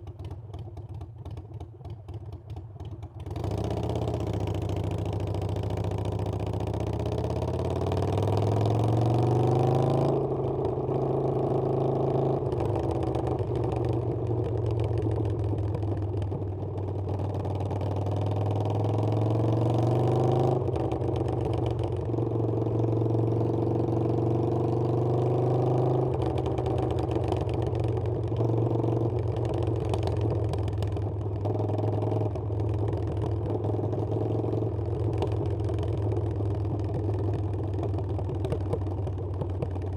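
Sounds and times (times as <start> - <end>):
motorcycle engine accelerating: 3.2 - 39.9.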